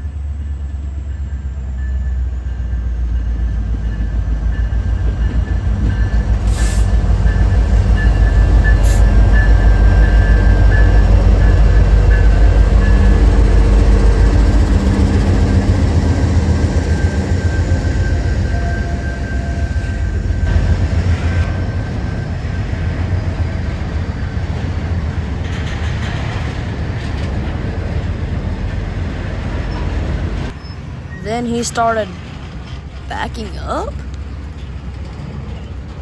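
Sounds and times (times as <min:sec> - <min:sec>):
freight train rumbling: 0:00.0 - 0:36.0.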